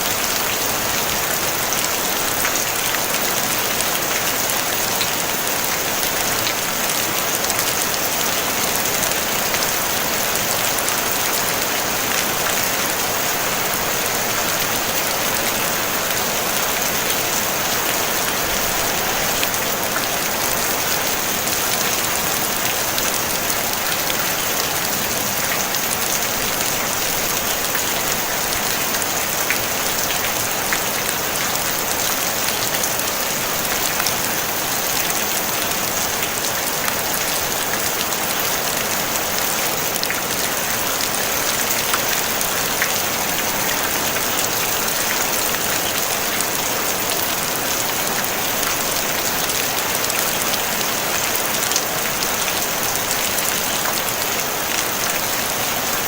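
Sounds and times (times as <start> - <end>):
rain drumming on a tin roof: 0.0 - 56.0.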